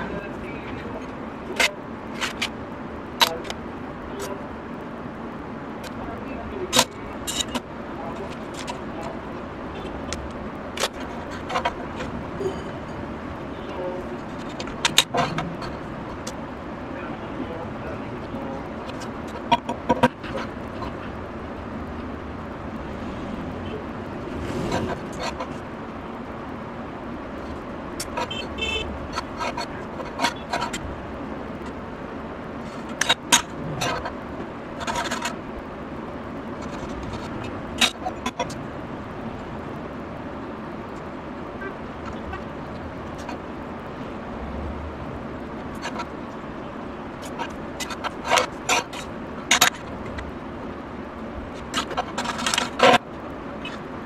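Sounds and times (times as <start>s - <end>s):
street traffic: 0.0s - 54.0s.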